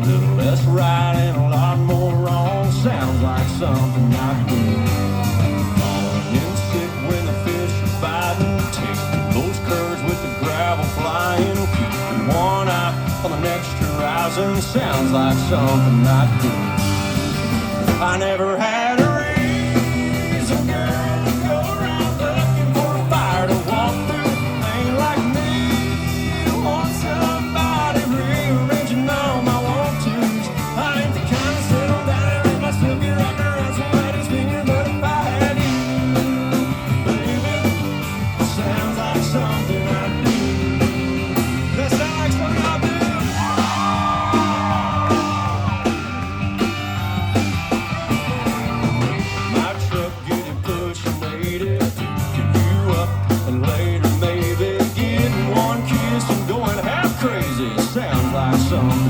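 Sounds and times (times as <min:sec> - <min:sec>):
live country band playing: 0:00.0 - 0:59.0.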